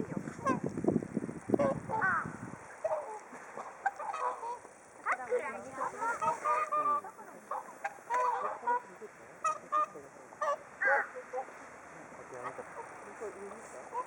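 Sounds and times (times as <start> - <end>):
swans honking: 0.0 - 0.7, 1.5 - 14.0.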